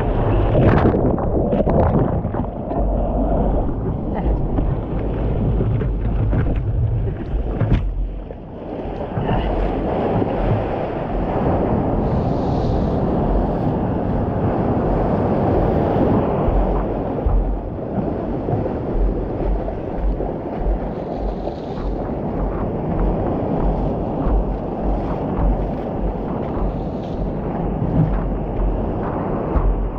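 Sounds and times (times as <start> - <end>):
surf rushing around surfboard: 0.0 - 29.9
wind buffeting microphone: 0.0 - 29.9.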